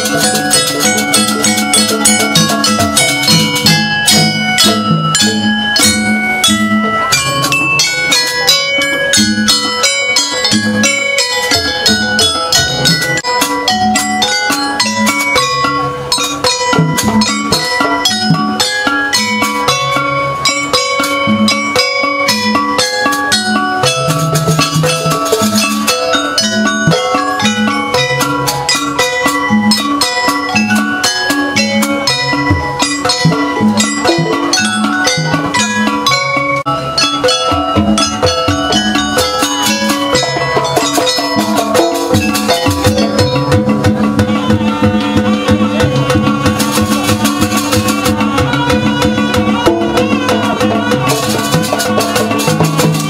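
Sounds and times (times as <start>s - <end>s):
gamelan metal notes: 0.0s - 53.0s
steady drumming: 0.0s - 53.0s.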